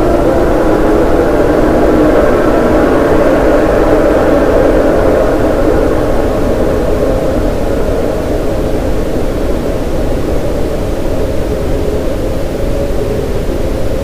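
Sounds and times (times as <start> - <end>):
brown noise with reverb: 0.0 - 14.0.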